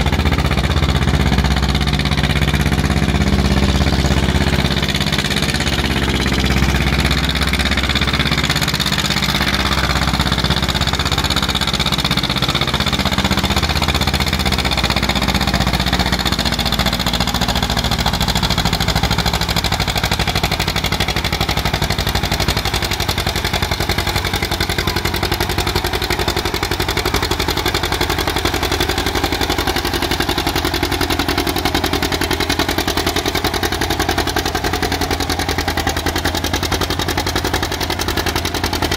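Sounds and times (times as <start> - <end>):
tractor engine running hard: 0.0 - 38.9.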